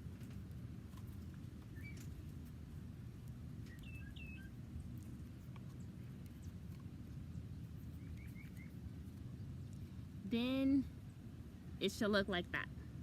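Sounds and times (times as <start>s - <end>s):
steady low rumble: 0.0s - 13.0s
small birds chirping: 0.2s - 12.0s.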